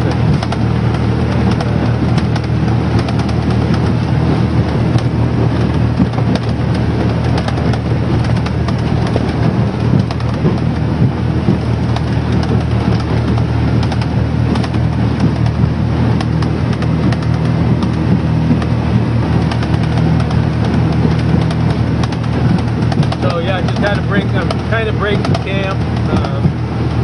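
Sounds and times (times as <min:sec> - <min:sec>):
boat engine running: 0:00.0 - 0:27.0
hull slapping on waves: 0:00.0 - 0:27.0.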